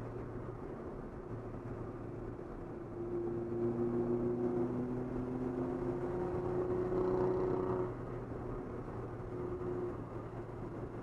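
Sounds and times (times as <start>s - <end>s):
car engine at speed: 0.0s - 11.0s
road and tyre noise: 0.0s - 11.0s.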